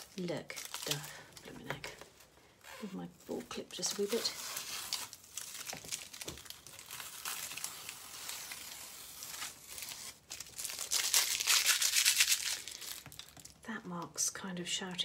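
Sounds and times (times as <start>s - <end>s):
tape crumpled by hand: 0.0s - 13.6s.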